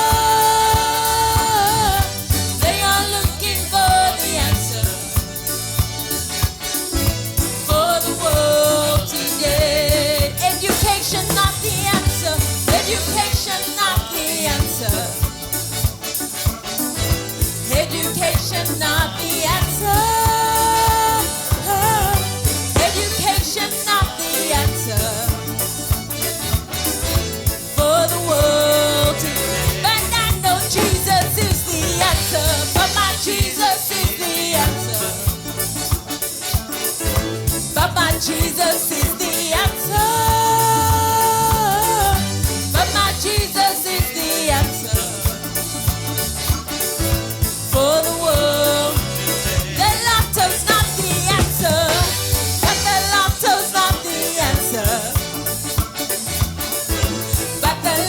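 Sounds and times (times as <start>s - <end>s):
person singing worship song: 0.0s - 5.4s, 7.6s - 15.6s, 17.6s - 25.6s, 27.7s - 37.0s, 37.7s - 46.0s, 47.7s - 55.8s
band with bass and drums: 0.0s - 58.0s.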